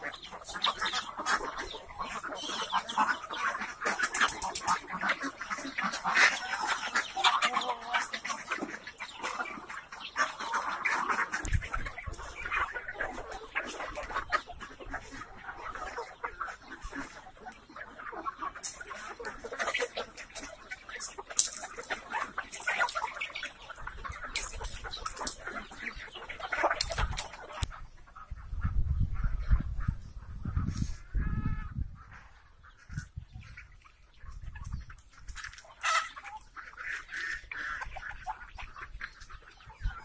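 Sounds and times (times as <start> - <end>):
chickens clucking and squawking: 0.0 - 40.0.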